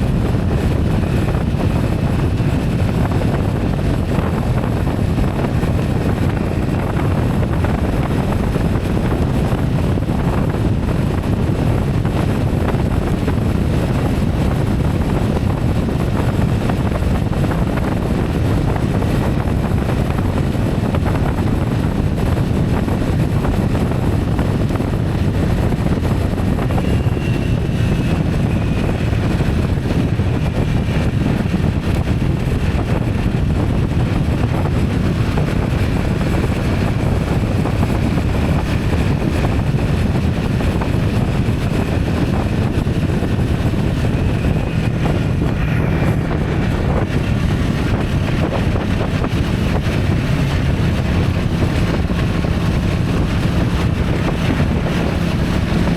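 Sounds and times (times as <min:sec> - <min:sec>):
moving vehicle rumble: 0:00.0 - 0:55.9
wind noise on microphone: 0:00.0 - 0:55.9.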